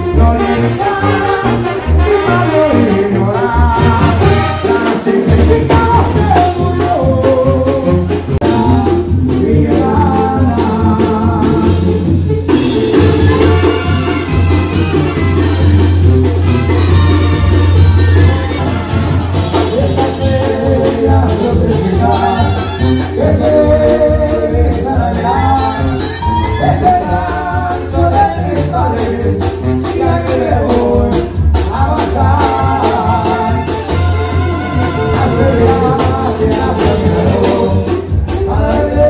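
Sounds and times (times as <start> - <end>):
person singing: 0.0 - 14.0, 19.5 - 39.0
brass band playing: 0.0 - 39.0
tuba bass line: 0.0 - 39.0.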